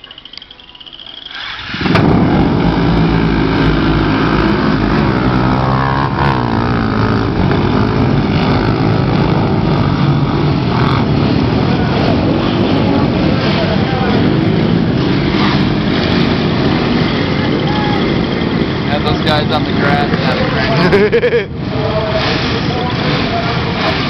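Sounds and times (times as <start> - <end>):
many atv engines at full throttle: 0.0 - 24.0.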